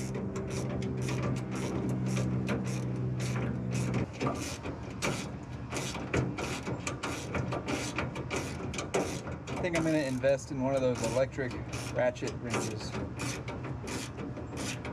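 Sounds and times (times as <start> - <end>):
ratchet wrench clicking: 0.0 - 5.2, 5.8 - 14.9.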